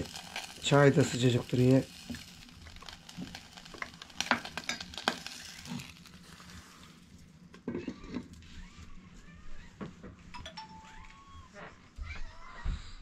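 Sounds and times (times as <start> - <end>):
wood stove sizzling and crackling: 0.0 - 12.3.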